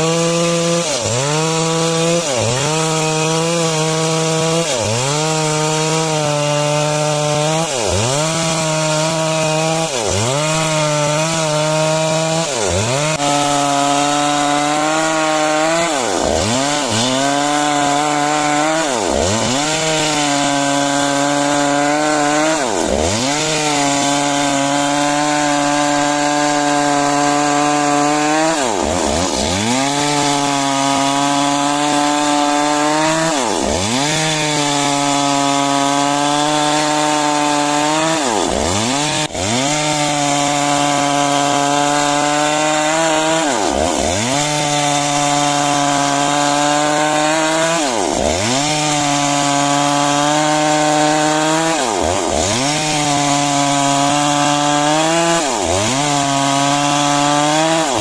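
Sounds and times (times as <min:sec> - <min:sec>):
chainsaw ripping timber: 0:00.0 - 0:58.0.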